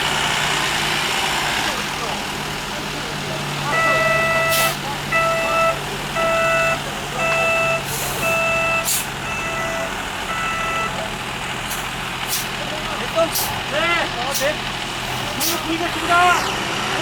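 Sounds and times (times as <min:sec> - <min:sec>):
truck reversing alarm beeping: 0:00.0 - 0:16.6
large engine idling: 0:00.0 - 0:17.0.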